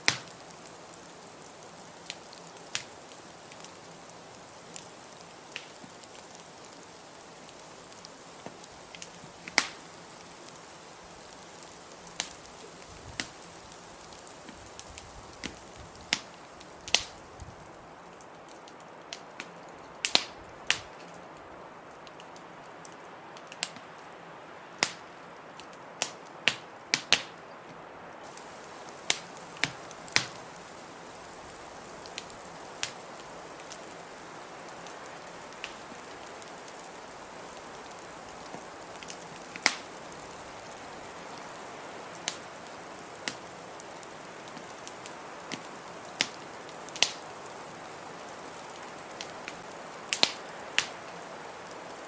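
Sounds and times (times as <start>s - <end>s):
fire hissing: 0.0s - 21.2s, 28.2s - 52.0s
wood fire crackling: 0.0s - 52.0s.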